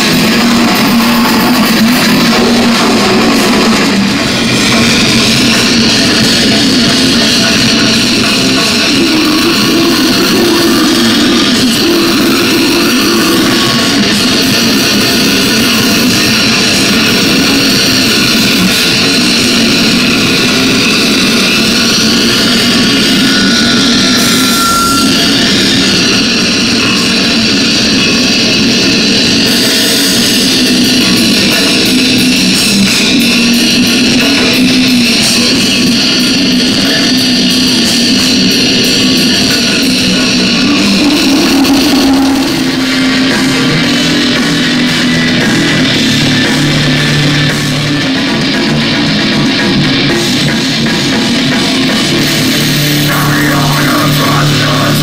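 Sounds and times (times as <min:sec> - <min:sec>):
live metal band playing: 0:00.0 - 0:55.0.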